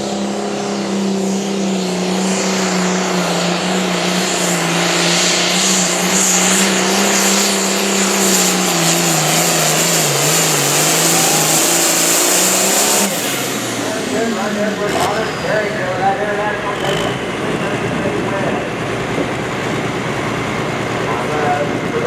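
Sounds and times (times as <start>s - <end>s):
engine at full throttle: 0.0s - 22.0s.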